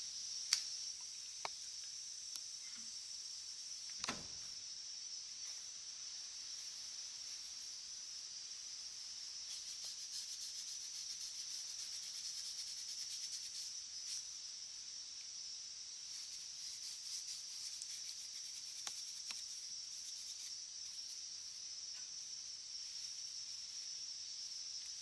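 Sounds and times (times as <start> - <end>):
insects chirping in a trill: 0.0 - 25.0.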